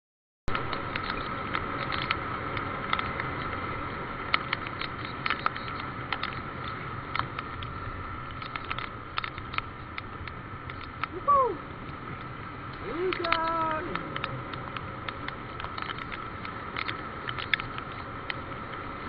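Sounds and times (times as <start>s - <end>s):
faint steady whine: 0.5s - 19.0s
steady rushing noise: 0.5s - 19.0s.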